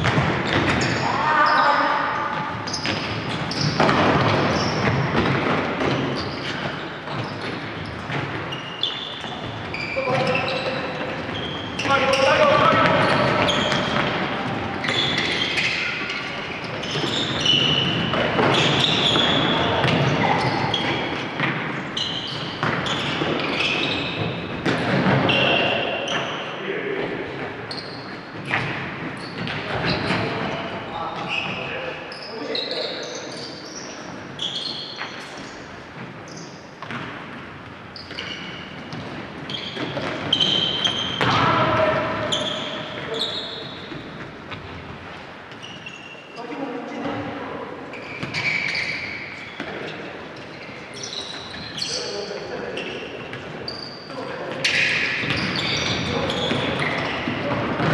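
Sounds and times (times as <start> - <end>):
shoes squeaking on wooden floor: 0.0 - 57.9.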